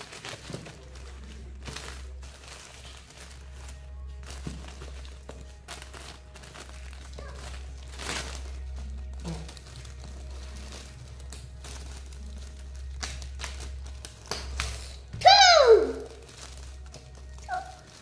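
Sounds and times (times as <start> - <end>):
wrapping paper crinkling: 0.0 - 18.0.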